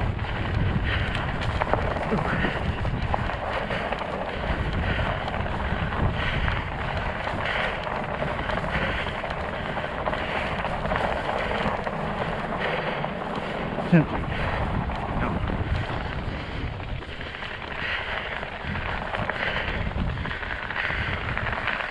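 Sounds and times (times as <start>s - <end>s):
studded bike tires rolling: 0.0s - 21.9s
wind rushing over microphone: 0.0s - 21.9s.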